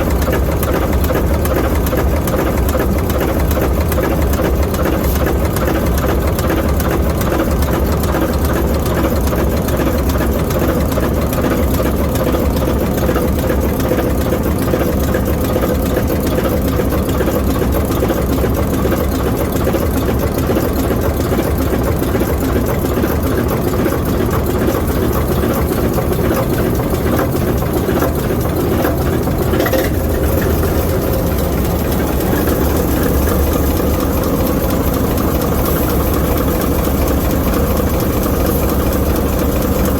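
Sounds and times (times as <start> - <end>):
locomotive diesel engine running: 0.0 - 39.9.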